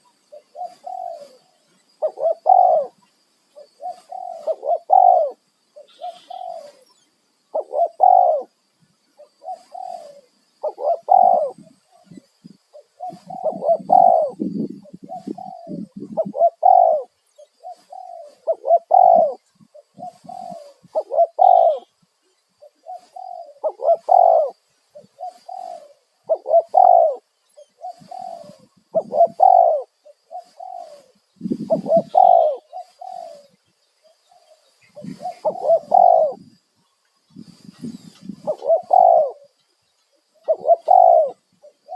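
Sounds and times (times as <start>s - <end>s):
doves cooing: 0.0s - 3.0s, 3.6s - 22.0s, 22.6s - 36.6s, 37.3s - 39.6s, 40.2s - 41.9s.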